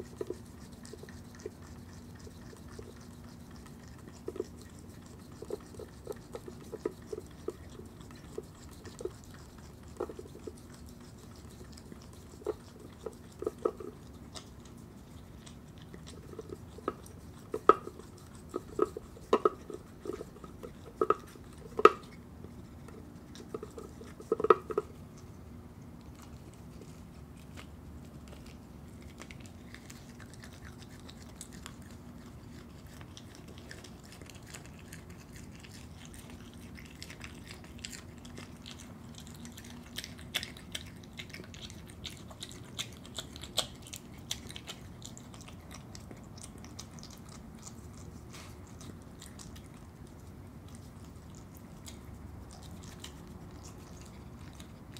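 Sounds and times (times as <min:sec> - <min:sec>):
animal chewing and crunching: 0:00.0 - 0:54.9.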